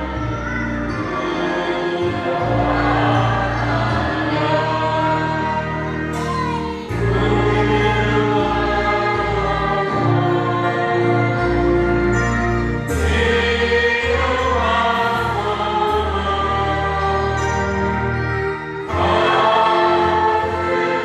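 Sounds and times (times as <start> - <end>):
choir singing a hymn: 0.0 - 21.0
instrumental accompaniment: 0.0 - 21.0.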